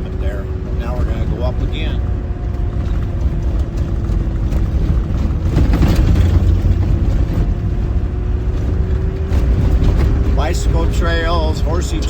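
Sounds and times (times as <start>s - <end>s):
engine rumbling under load: 0.0s - 12.0s
knocks and rattles: 1.5s - 12.0s.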